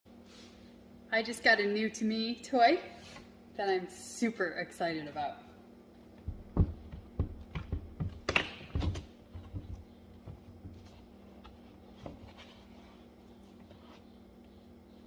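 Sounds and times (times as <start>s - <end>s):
faint steady hum: 0.1s - 15.0s.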